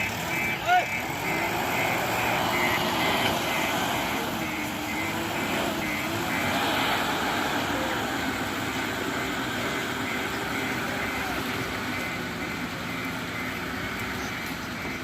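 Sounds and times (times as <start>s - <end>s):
diesel engine running: 0.0s - 15.0s
reversing alarm beeping: 0.0s - 15.0s.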